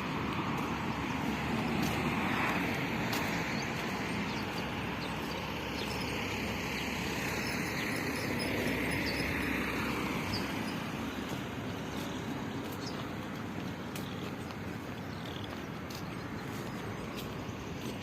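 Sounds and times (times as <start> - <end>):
road and wind hiss: 0.0 - 18.0
vehicle rumble: 0.0 - 18.0.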